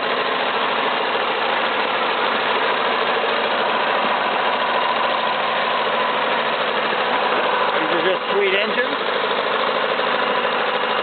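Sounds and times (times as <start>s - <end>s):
two-stroke outboard motor running: 0.0s - 11.0s.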